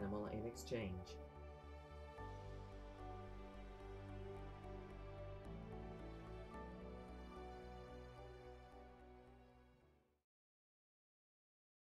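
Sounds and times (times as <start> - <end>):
quiet background music: 0.0 - 10.1.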